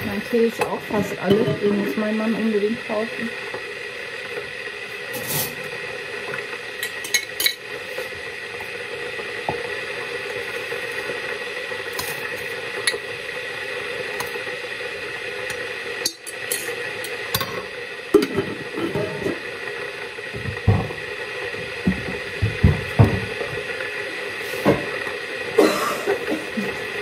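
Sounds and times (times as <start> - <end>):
steady hissing background: 0.0 - 27.0.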